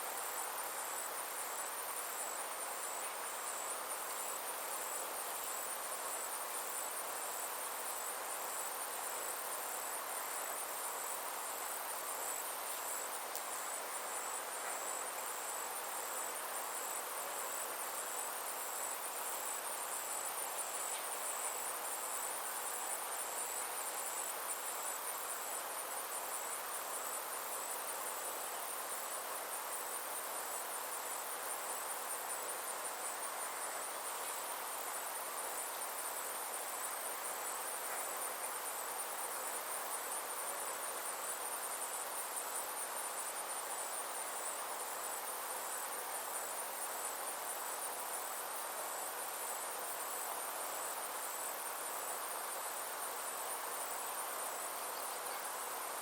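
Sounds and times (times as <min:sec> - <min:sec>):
insects trilling: 0:00.0 - 0:56.0
soft background hiss: 0:00.0 - 0:56.0.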